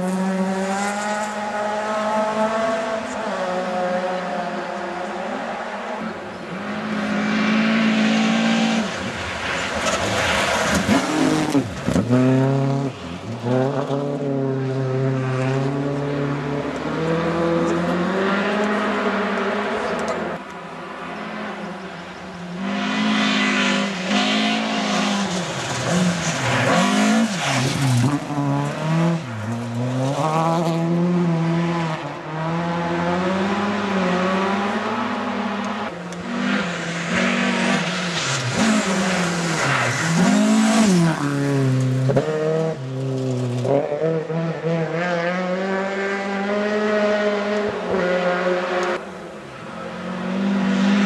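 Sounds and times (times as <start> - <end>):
rally car engine revving: 0.0 - 20.5, 22.5 - 51.0.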